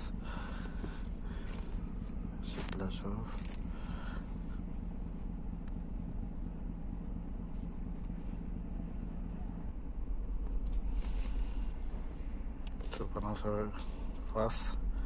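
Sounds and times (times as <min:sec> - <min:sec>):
engine idling rough with misfire: 0:00.0 - 0:15.0.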